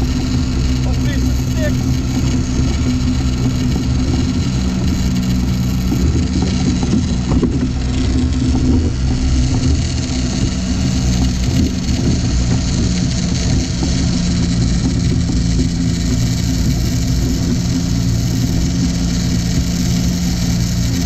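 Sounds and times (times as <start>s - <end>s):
boat wake rushing: 0.0s - 21.0s
outboard motor running: 0.0s - 21.0s
wind: 0.0s - 21.0s.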